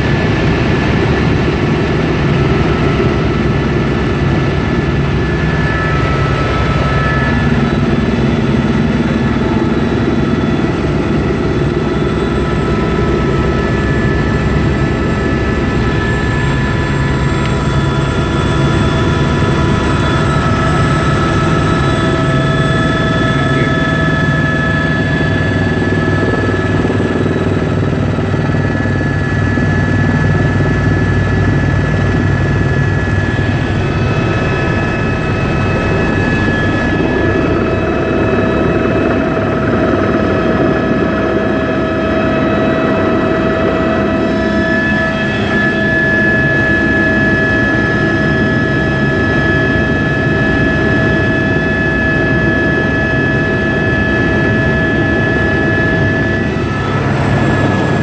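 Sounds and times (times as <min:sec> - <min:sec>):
helicopter engine and rotor drone: 0:00.0 - 0:58.0
turbine whine: 0:00.0 - 0:58.0.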